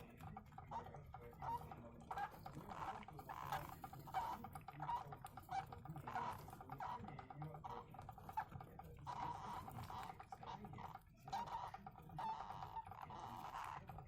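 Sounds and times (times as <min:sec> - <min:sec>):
hamster squeaking softly: 0:00.0 - 0:14.0.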